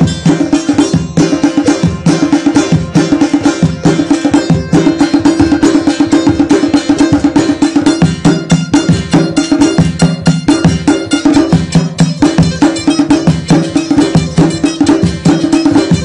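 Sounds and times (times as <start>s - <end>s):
frame drum: 0.0s - 16.0s
small drums struck with stick: 0.0s - 16.0s.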